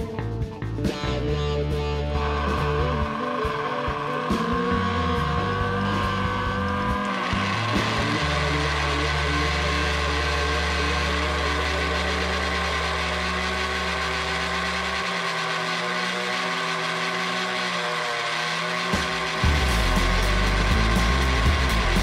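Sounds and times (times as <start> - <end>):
deep hum: 0.0 - 22.0
electric motor buzzing: 0.8 - 22.0.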